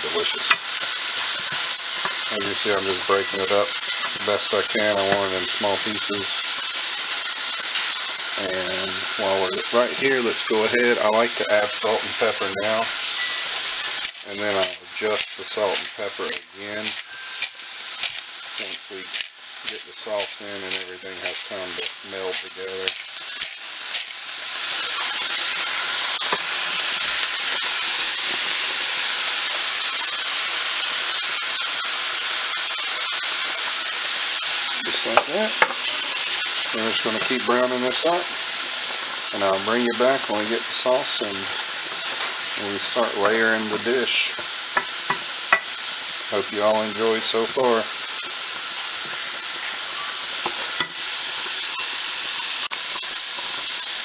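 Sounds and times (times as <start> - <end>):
meat and onions sizzling: 0.0 - 54.0.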